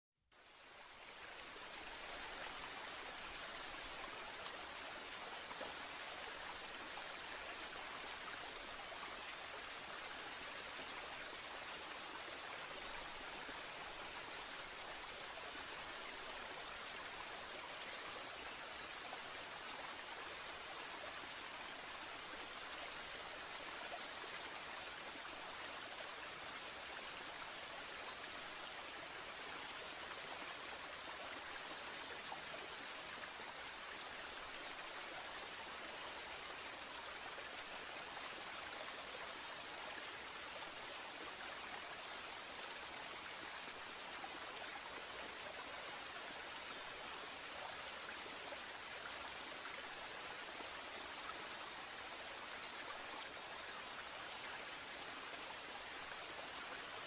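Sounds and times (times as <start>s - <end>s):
small waterfall rushing: 0.4s - 57.0s.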